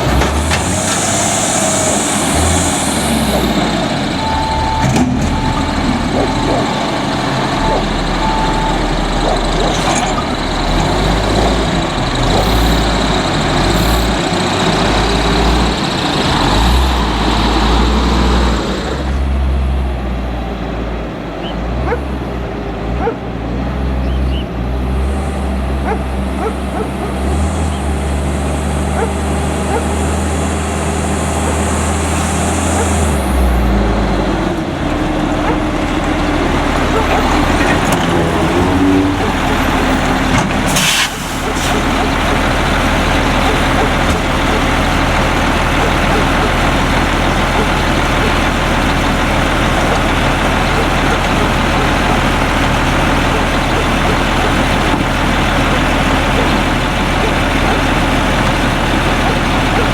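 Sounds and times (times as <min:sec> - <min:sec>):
garbage truck diesel engine: 0:00.0 - 0:59.9.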